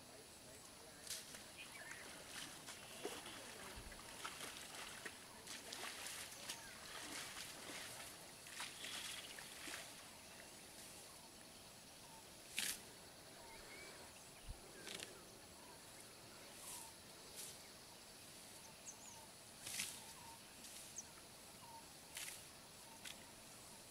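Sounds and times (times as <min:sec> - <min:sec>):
high insect hum: 0:00.0 - 0:23.9
faint bird chirps: 0:00.5 - 0:23.9.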